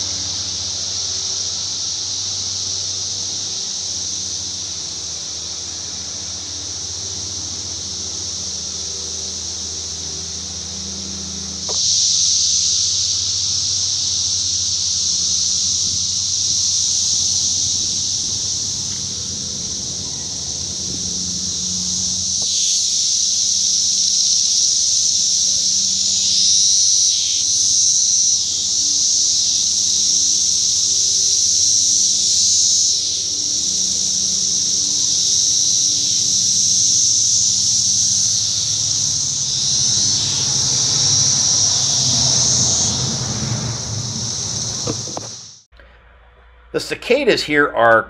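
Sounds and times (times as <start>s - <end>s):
cicadas buzzing: 0.0s - 45.9s.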